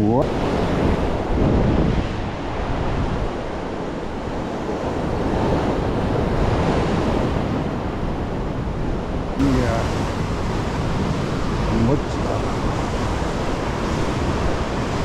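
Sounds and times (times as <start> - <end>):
wind buffeting microphone: 0.0 - 15.0
surf breaking on shore: 0.2 - 8.0, 9.4 - 15.0.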